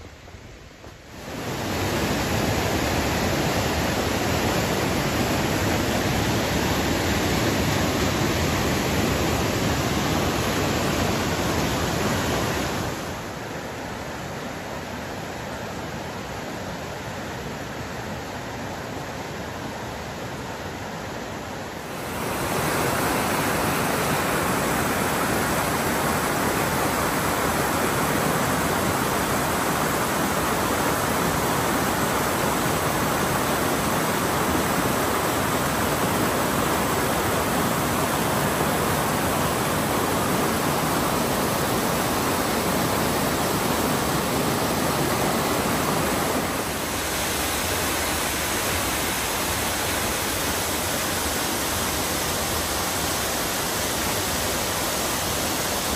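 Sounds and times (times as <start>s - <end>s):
creek rushing over boulders: 1.1s - 16.4s, 17.2s - 55.9s.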